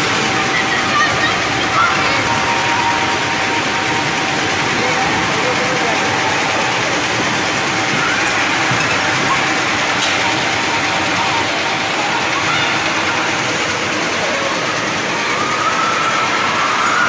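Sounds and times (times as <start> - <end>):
crowd noise: 0.0 - 17.0
ride machinery: 0.0 - 17.0.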